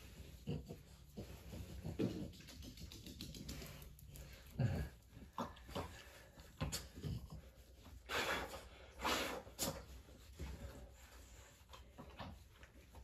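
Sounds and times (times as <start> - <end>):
dog snorting and panting: 0.0 - 13.0.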